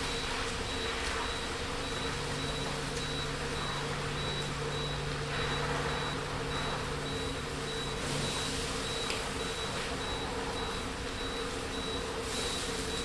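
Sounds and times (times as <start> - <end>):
electronic alarm beeping: 0.0 - 13.0
steady low hum: 0.0 - 13.0.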